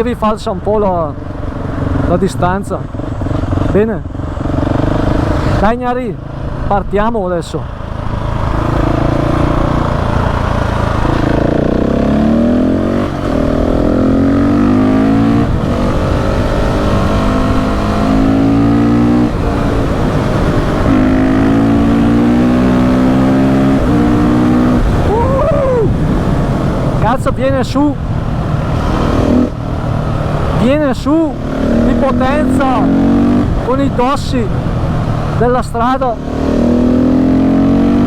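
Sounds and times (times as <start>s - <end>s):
motorcycle engine accelerating: 1.1s - 6.7s, 7.7s - 38.0s.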